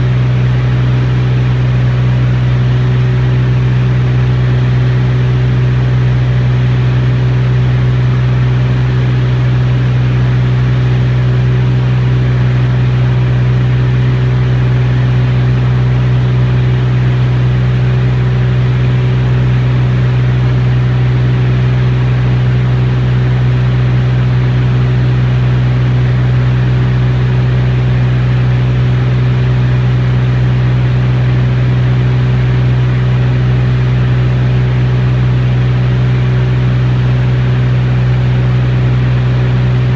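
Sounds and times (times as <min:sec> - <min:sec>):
piston aircraft engine droning: 0:00.0 - 0:39.9.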